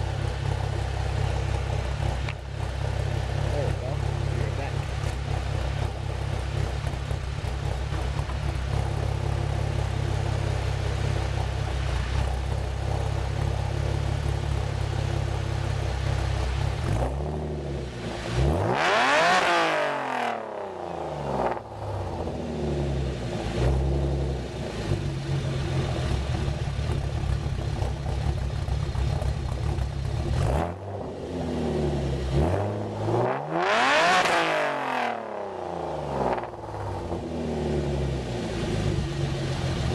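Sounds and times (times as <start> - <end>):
car engine revving: 0.0 - 39.9
car exhaust idling: 0.0 - 39.9.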